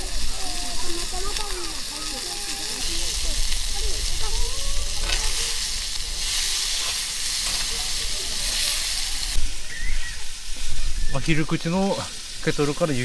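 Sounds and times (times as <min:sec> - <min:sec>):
faint fire cracks: 0:00.0 - 0:13.0
food sizzling in a pan: 0:00.0 - 0:13.0.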